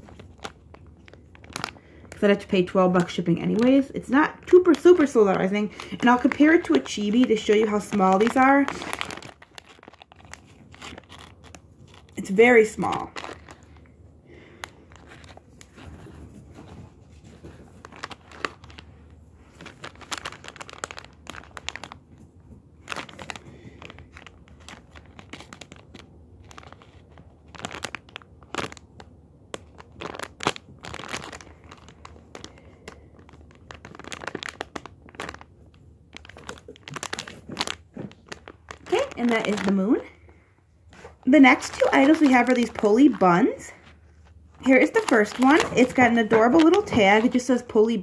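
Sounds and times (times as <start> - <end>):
plastic bags crinkling: 0.0 - 48.0.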